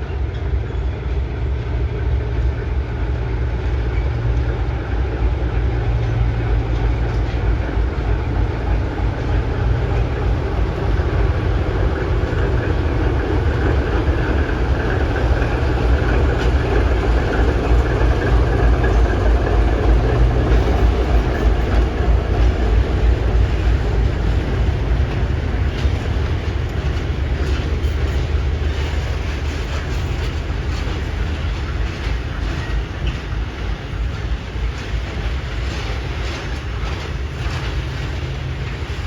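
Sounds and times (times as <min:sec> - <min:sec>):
train passing rumble: 0:00.0 - 0:39.0.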